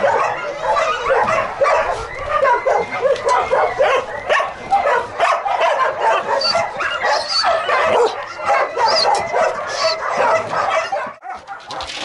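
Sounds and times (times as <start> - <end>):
dogs whining: 0.0 - 11.2
dogs barking and yipping: 0.0 - 12.0.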